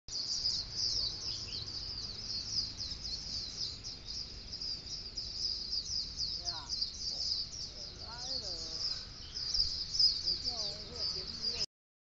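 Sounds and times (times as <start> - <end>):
birds chirping: 0.1 - 11.7.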